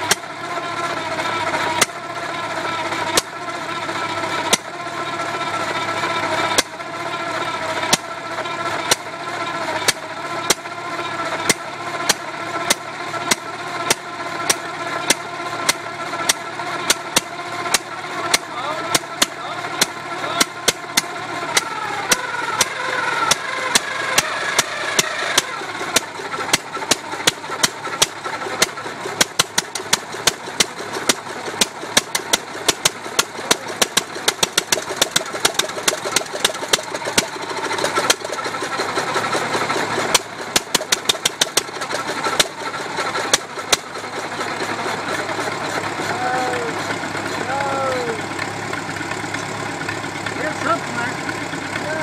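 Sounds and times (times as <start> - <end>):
engine exhaust pops: 0.0 - 3.5, 4.2 - 51.8.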